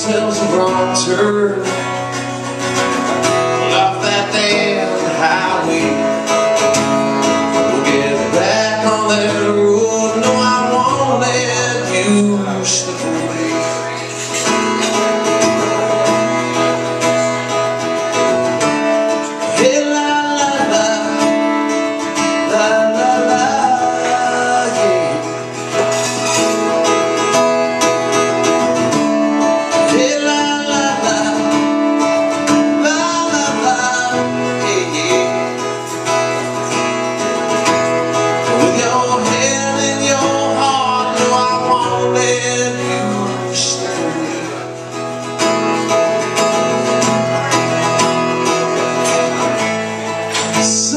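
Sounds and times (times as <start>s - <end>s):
man singing: 0.0s - 16.8s, 17.9s - 50.9s
acoustic guitar strumming: 0.0s - 50.9s.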